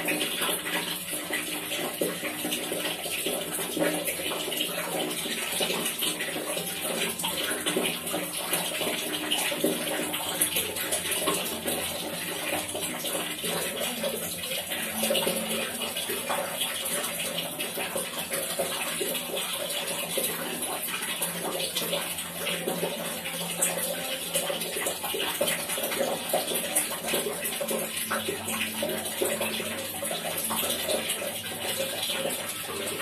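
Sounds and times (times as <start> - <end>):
water dripping and trickling: 0.0 - 33.0.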